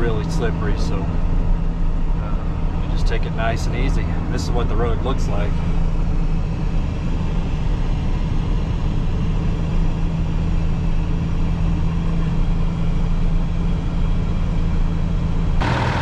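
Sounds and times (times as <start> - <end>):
truck rumbling on snowy road: 0.0 - 16.0.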